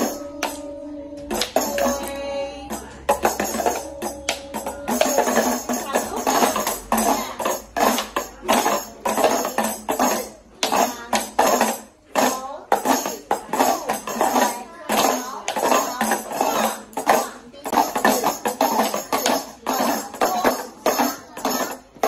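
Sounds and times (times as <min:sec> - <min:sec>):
tambourines struck with mallets: 0:00.0 - 0:22.0.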